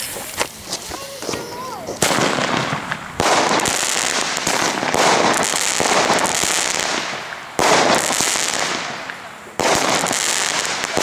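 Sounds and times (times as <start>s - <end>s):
firework bang: 0.0s - 11.0s
firework crackling: 0.0s - 11.0s.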